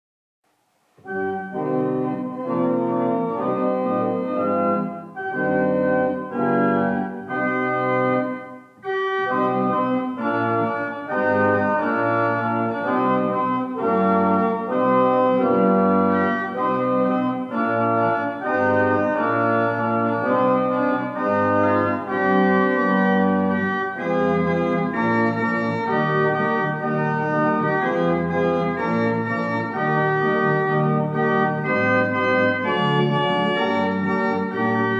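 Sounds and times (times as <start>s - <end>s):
church organ playing: 1.0s - 34.9s.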